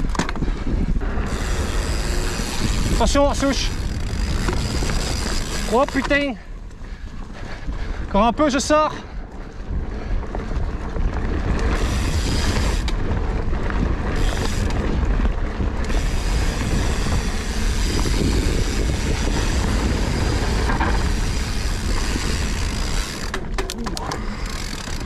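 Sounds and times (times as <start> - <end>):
bike tyre and trail noise: 0.0 - 25.0
wind on microphone: 0.0 - 25.0.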